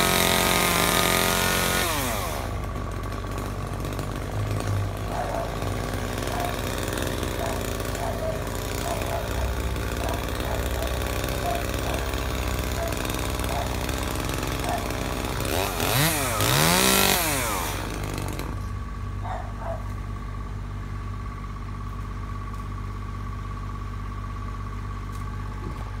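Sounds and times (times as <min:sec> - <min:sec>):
chainsaw revving and idling: 0:00.0 - 0:26.0
steady engine hum: 0:00.0 - 0:26.0.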